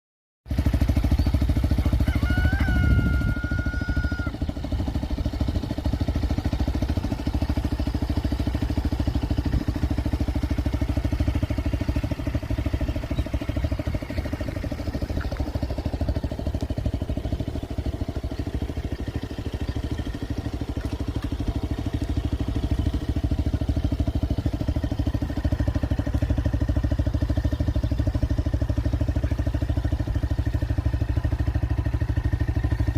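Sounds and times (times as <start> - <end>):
motorcycle engine running: 0.5 - 32.9.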